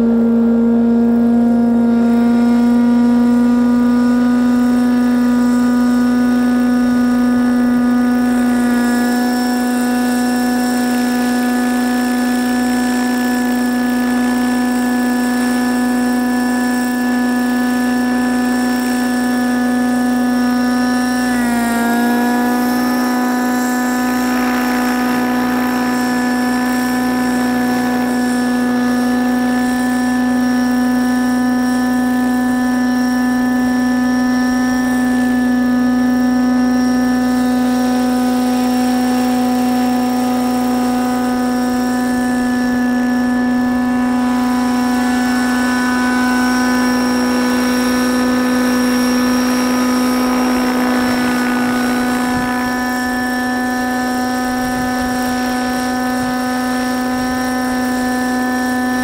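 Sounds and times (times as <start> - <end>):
model helicopter buzzing: 0.0 - 59.0.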